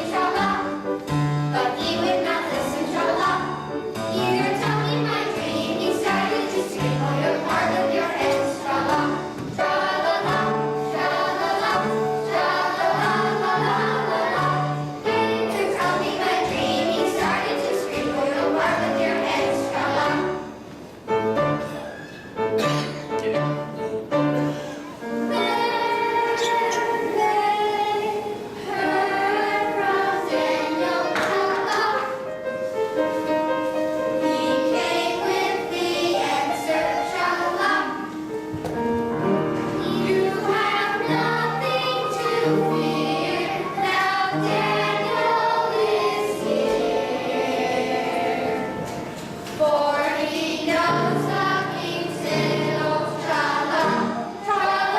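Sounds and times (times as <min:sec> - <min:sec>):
choir singing worship music: 0:00.0 - 0:20.8, 0:23.9 - 0:54.9.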